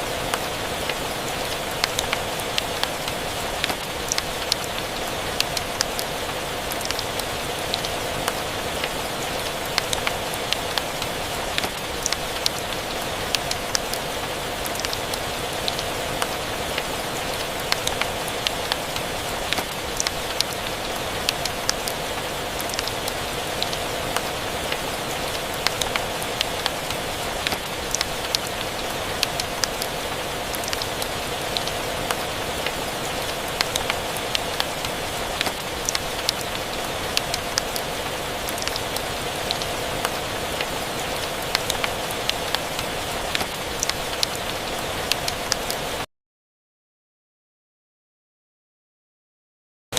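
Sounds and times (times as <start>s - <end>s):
steady rain: 0.0s - 46.1s.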